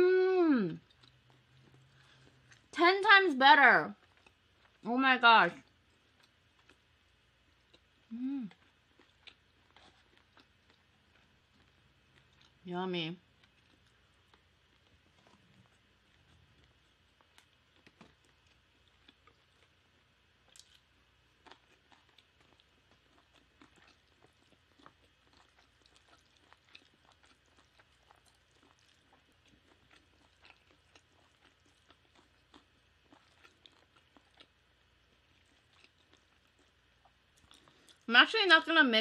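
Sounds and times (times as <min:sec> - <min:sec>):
chewing food: 0:00.7 - 0:04.9, 0:05.6 - 0:38.1.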